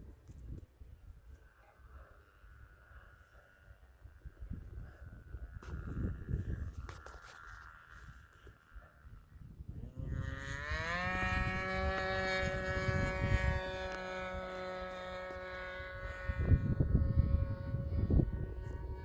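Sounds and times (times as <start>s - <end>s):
wind rumbling on microphone: 0.0s - 19.0s
electric ducted fan whine: 2.2s - 19.0s.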